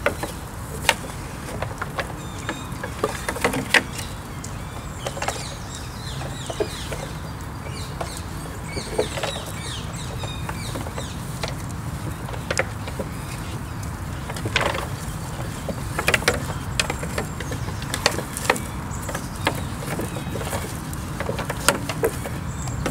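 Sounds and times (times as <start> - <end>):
antlers knocking on wood: 0.0 - 4.1, 4.8 - 22.9.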